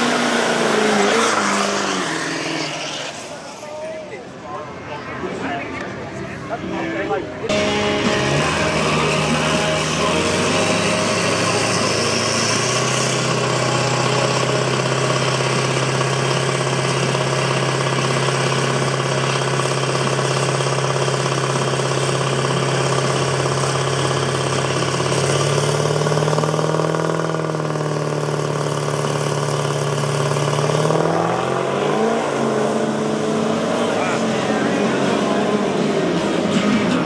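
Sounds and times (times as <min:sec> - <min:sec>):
pickup truck engine idling and revving: 0:00.0 - 0:04.4, 0:07.0 - 0:37.0.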